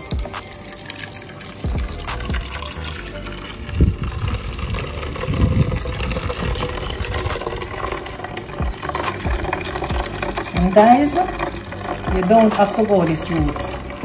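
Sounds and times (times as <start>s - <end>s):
liquid trickling into metal bowl: 0.0s - 14.0s
low bumps: 1.7s - 14.0s.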